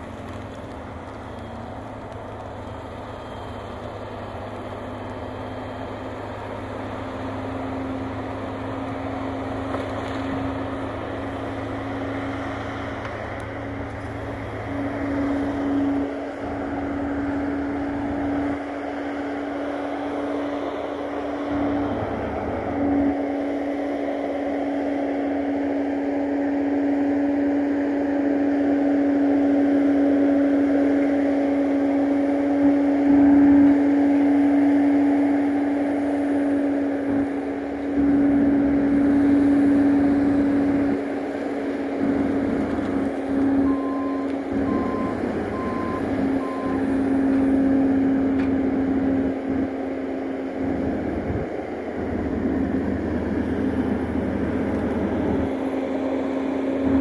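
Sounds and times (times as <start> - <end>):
diesel engine at high revs: 0.0 - 57.0
logs skidding: 0.0 - 57.0.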